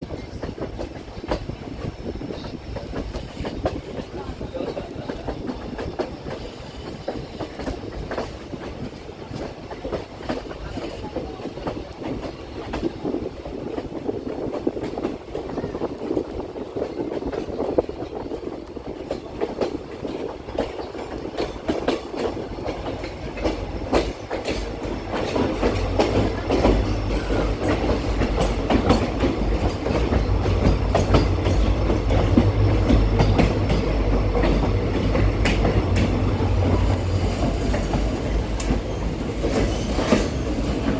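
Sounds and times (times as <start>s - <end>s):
train wheels clacking over rails: 0.0s - 40.9s.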